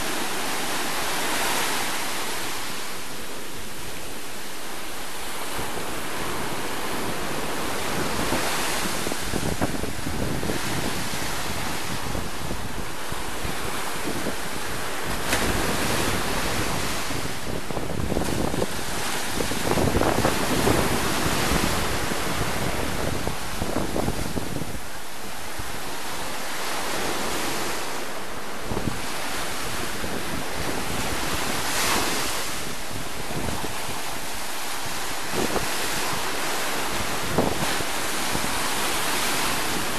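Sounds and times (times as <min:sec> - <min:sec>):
surf washing on sand: 0:00.0 - 0:39.9
wind buffeting microphone: 0:00.0 - 0:39.9.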